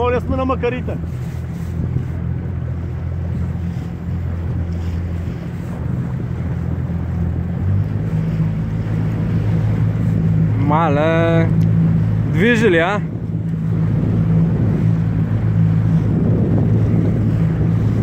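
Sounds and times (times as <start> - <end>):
outboard motor humming: 0.0 - 18.0
sea noise: 0.0 - 18.0
wind: 0.0 - 18.0.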